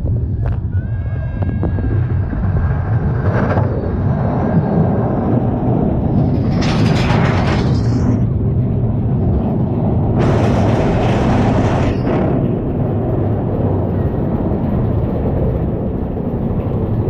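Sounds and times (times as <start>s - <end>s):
roller coaster rumbling on track: 0.0s - 17.0s.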